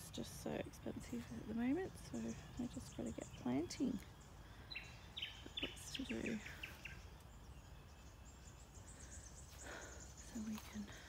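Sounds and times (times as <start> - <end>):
birds calling stepped notes: 0.0 - 11.0
low outdoor background hum: 0.0 - 11.0
faint high bird chirping: 0.1 - 11.0.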